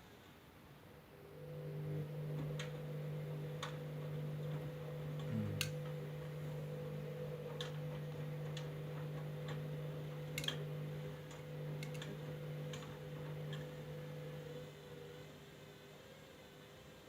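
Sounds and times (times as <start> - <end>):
washing machine motor humming: 1.0 - 17.0.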